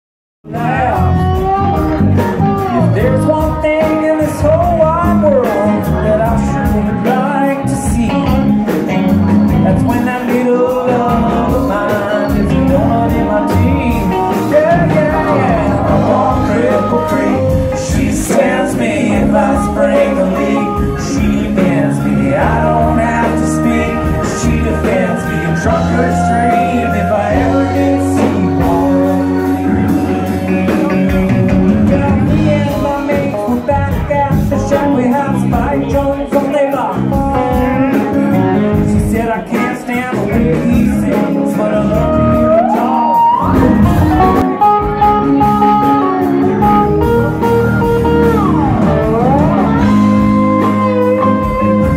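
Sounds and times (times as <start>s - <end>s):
electric bass: 0.4s - 51.9s
drum kit: 0.5s - 51.9s
electric guitars: 0.5s - 51.9s
keyboard: 0.5s - 51.9s.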